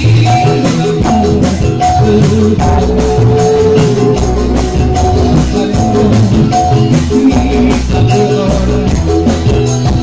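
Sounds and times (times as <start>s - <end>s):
bass line: 0.0s - 10.0s
live band music: 0.0s - 10.0s
tambourine beat: 0.0s - 10.0s.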